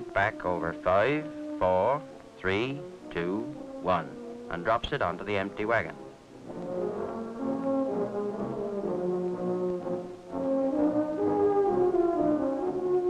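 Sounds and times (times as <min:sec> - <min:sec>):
brass film music: 0:00.0 - 0:13.0.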